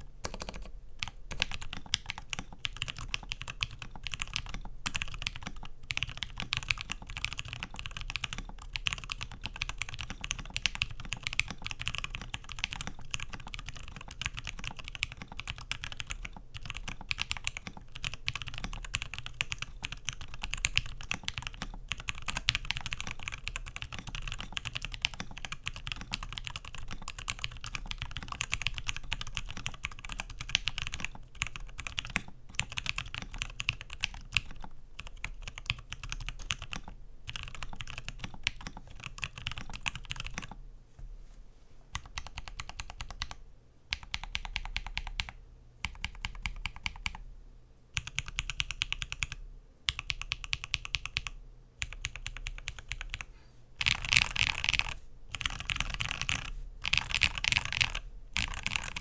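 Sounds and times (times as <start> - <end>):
typing on mechanical keyboard: 0.2 - 40.6, 41.9 - 47.2, 48.0 - 59.0.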